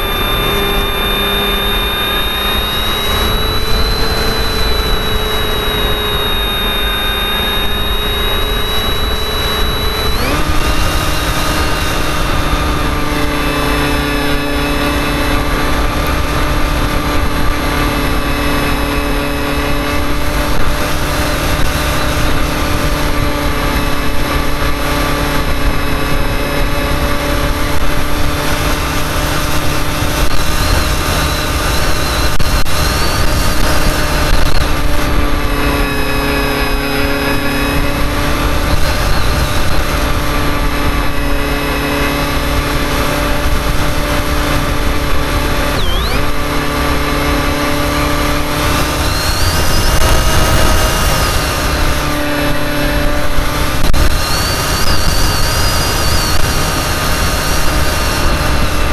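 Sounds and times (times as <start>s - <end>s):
electric motor propeller whine: 0.0s - 58.9s.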